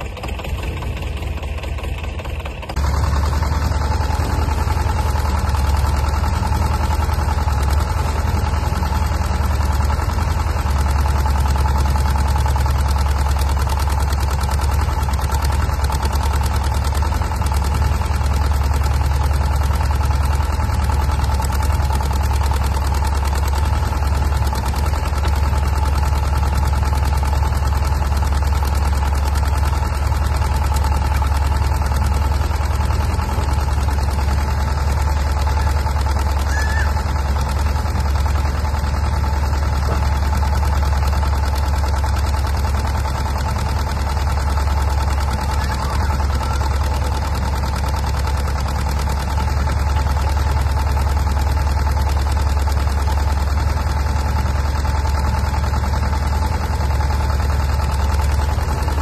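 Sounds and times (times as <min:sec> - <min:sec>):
excavator engine drone and whine: 0:00.0 - 0:59.0.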